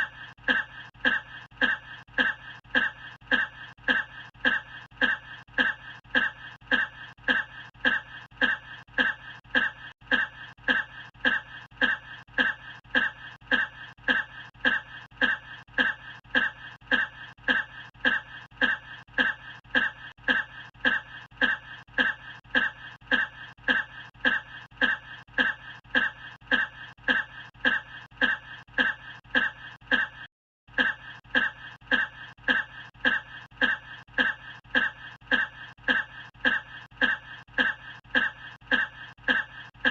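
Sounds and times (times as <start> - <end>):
person coughing: 0.0 - 39.9.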